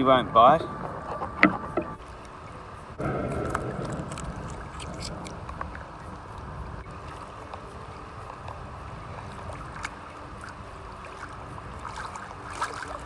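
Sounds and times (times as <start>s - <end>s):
water lapping: 0.0s - 13.0s
wind on microphone: 0.0s - 13.0s.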